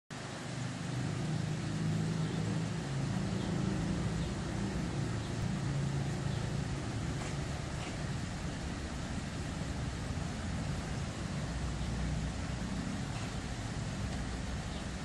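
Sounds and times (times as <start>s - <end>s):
distant engine humming: 0.2s - 15.0s.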